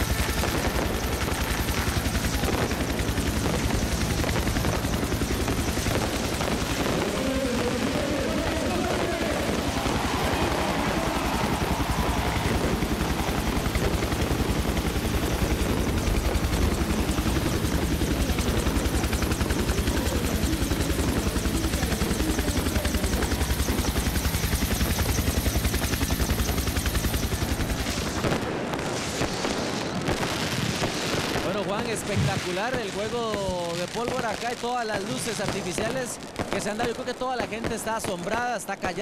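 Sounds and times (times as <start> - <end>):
helicopter rotor chopping: 0.0 - 39.0.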